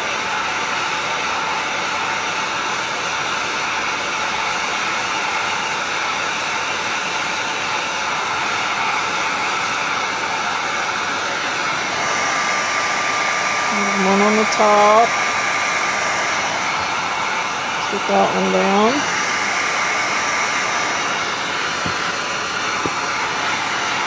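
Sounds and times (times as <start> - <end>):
heat gun blowing air: 0.0 - 24.0.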